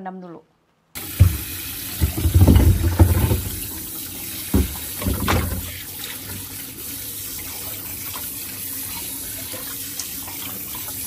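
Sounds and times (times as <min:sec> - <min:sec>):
tap running into a sink: 0:01.0 - 0:11.0.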